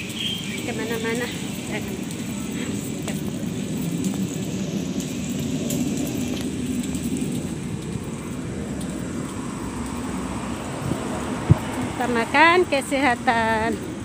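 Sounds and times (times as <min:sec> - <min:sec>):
low rumble of street noise: 0:00.0 - 0:14.0.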